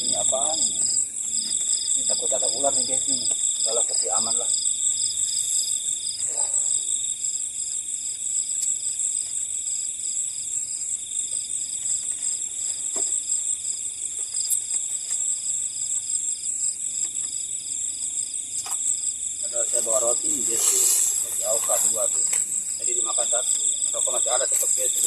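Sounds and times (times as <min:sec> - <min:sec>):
high-pitched insect trill: 0:00.0 - 0:25.0
rhythmic cricket chirp: 0:00.0 - 0:25.0.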